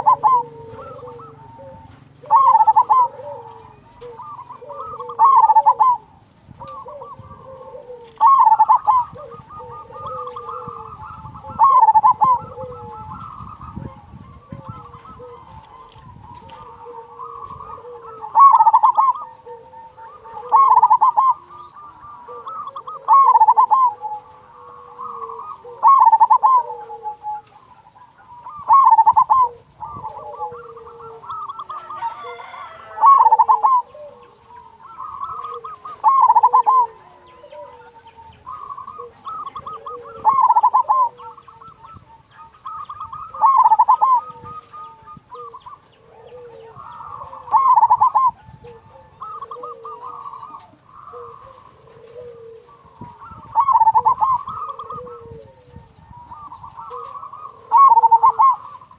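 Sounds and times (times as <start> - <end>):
dove cooing: 0.0 - 58.9.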